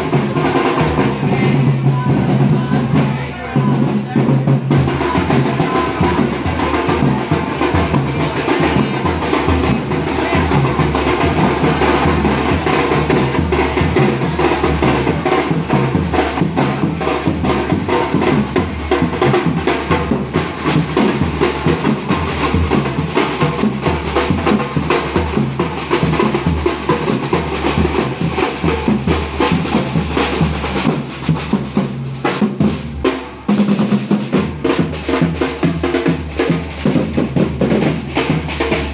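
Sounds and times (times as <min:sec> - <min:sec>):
bass drum beats: 0:00.0 - 0:38.9
snare drum rolls: 0:03.7 - 0:38.9.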